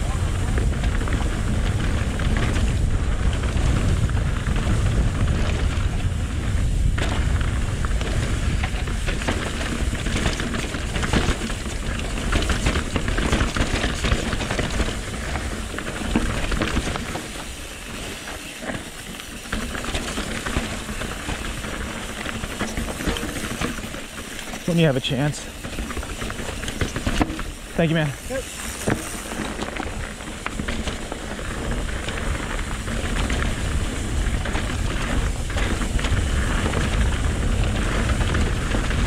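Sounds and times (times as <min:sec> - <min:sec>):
wind buffeting microphone: 0:00.0 - 0:18.3, 0:25.4 - 0:39.0
bike clattering over rocks: 0:00.0 - 0:39.0.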